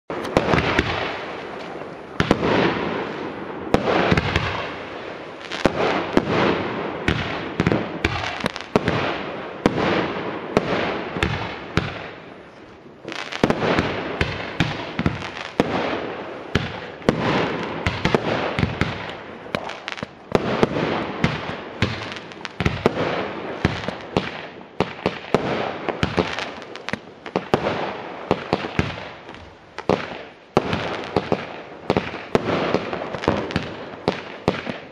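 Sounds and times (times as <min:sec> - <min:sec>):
firework crackling bursts: 0:00.1 - 0:34.9.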